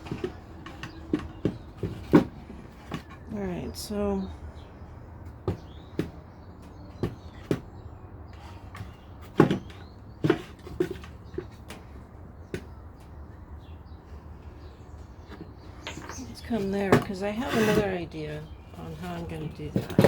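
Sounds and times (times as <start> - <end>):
tools and wood knocking on bench: 0.0 - 3.5, 5.2 - 13.2, 15.2 - 20.0.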